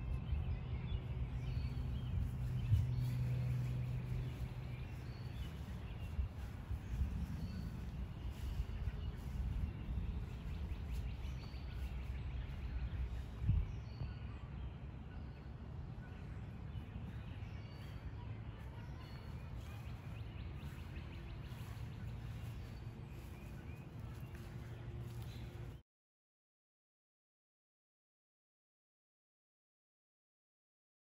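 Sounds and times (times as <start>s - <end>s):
bird chirps: 0.0s - 25.8s
steady low rumble: 0.0s - 25.8s.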